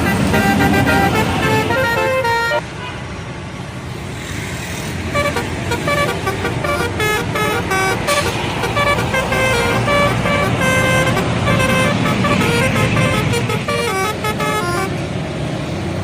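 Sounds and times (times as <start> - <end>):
multi-trumpet air horn tune: 0.0 - 3.0, 5.1 - 15.0
bus engine running: 0.0 - 16.0.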